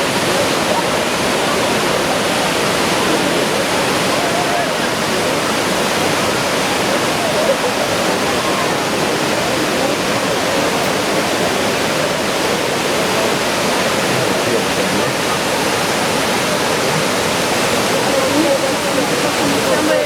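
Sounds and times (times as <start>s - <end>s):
waterfall crashing: 0.0s - 20.0s.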